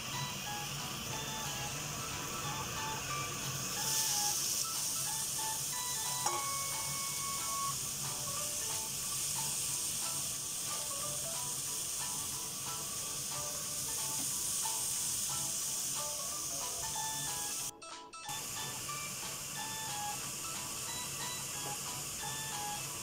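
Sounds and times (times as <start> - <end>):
vegetables sizzling in frying pan: 0.0 - 17.7, 18.3 - 23.0
light background music: 0.0 - 23.0.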